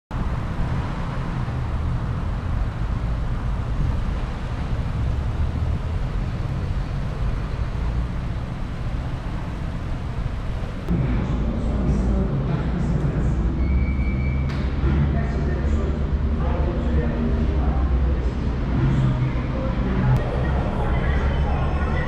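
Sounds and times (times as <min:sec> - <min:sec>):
road traffic rumble: 0:00.1 - 0:22.0.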